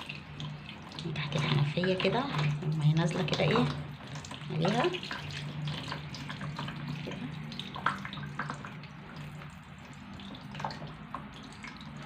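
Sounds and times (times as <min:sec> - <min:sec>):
tap water running: 0:00.0 - 0:12.0
water splashes: 0:00.0 - 0:12.0.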